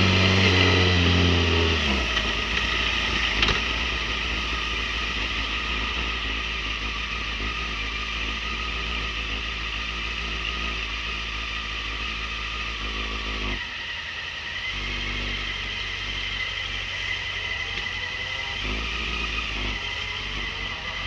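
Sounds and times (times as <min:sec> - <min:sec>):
motorcycle engine: 0:00.0 - 0:21.0.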